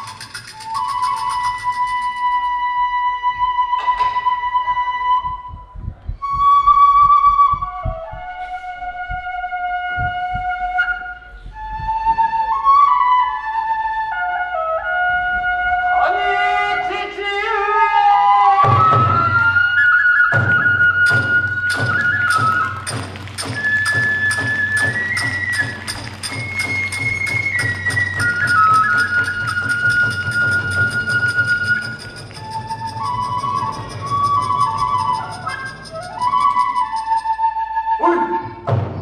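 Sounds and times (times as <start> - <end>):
drum beats: 0.0 - 13.0, 18.6 - 37.4, 38.1 - 39.0
bamboo flute melody: 0.0 - 39.0.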